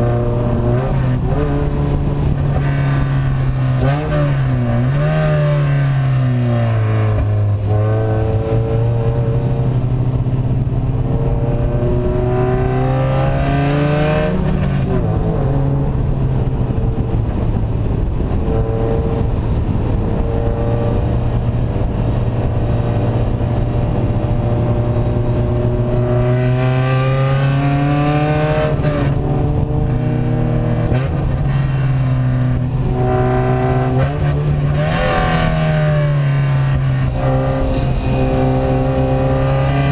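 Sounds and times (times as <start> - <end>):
loud unsilenced vehicle engine: 0.0 - 39.9.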